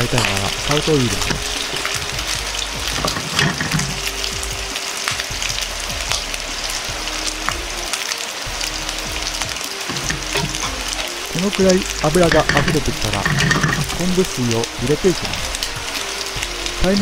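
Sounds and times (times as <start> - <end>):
chicken skin sizzling in a frying pan: 0.0 - 17.0.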